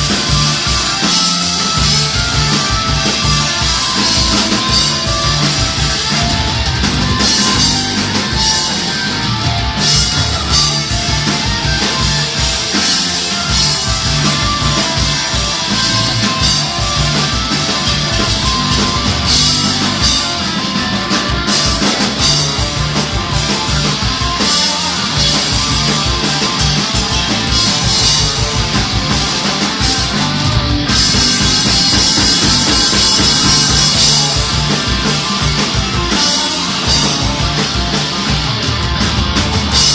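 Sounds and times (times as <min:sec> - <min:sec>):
drum kit beat: 0:00.0 - 0:39.9
electric guitar: 0:00.0 - 0:39.9.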